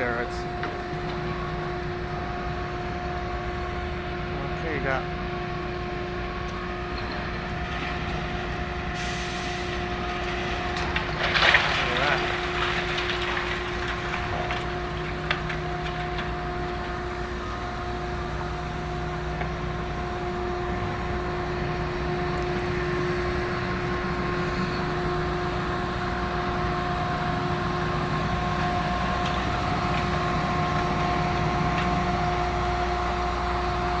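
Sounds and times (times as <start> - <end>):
low rumble of engines: 0.0 - 34.0.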